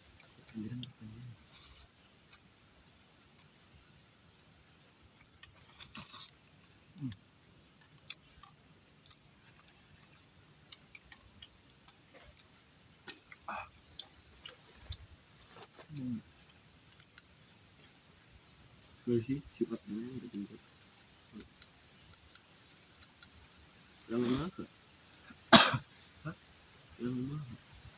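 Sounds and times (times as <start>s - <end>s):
crickets trilling: 0.0s - 27.9s.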